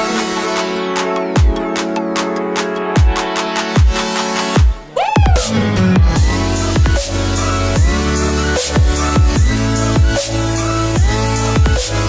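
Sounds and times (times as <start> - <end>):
dubstep electronic music: 0.0 - 12.0.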